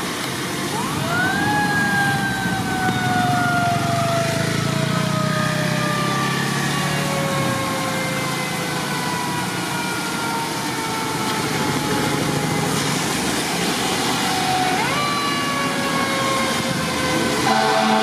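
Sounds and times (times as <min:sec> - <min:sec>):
tyres hissing on wet road: 0:00.0 - 0:18.0
mechanical siren wailing: 0:00.6 - 0:13.2, 0:13.9 - 0:18.0.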